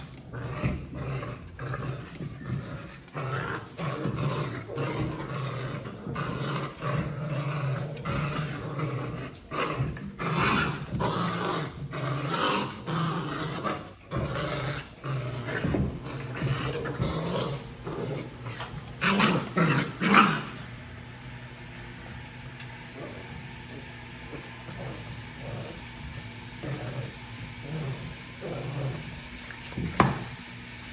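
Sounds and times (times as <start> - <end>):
puppies growling: 0.0 - 30.4.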